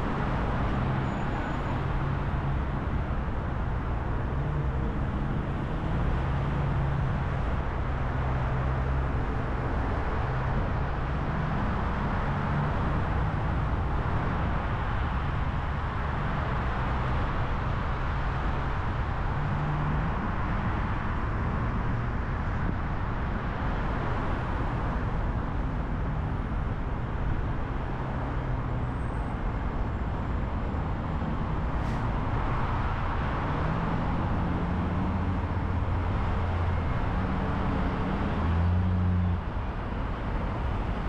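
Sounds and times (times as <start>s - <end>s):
tyre and wind road noise: 0.0s - 41.0s.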